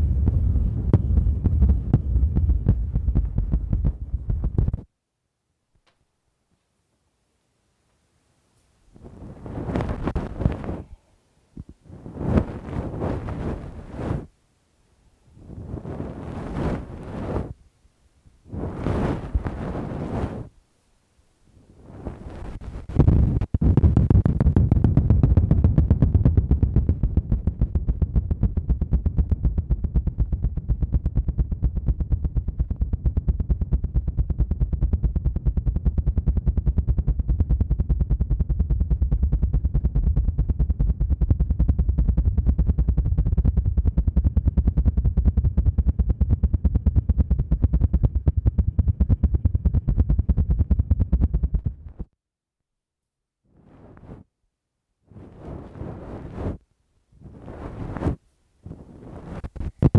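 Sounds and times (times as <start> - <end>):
low fluttering throb on microphone: 0.0 - 4.9, 9.0 - 14.3, 15.4 - 17.6, 18.4 - 20.6, 21.6 - 52.1, 55.1 - 56.6, 57.2 - 59.9.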